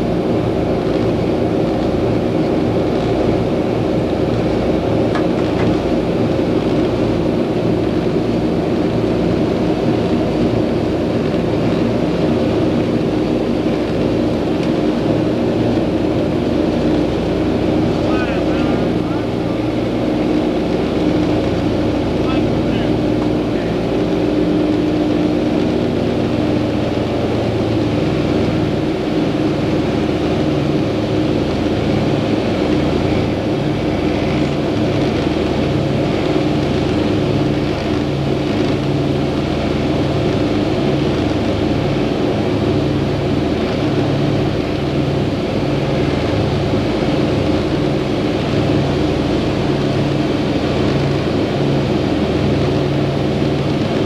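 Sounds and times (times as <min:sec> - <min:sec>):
propeller aircraft cabin drone: 0:00.0 - 0:54.0.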